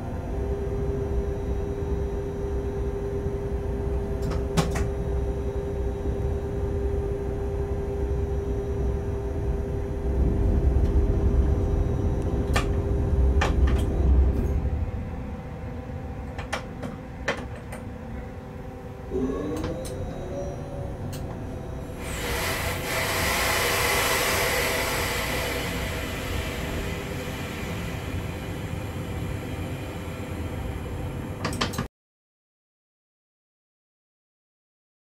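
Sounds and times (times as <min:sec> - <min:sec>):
locomotive hum and rumble: 0:00.0 - 0:31.9.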